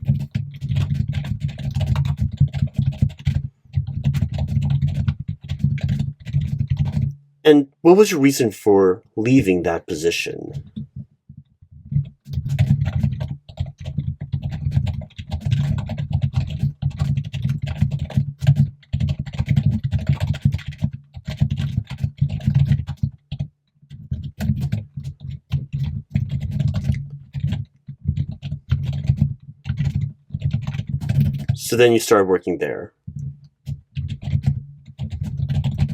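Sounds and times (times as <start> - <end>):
typing on computer keyboard: 0.0 - 7.2, 11.8 - 31.6, 33.1 - 35.9.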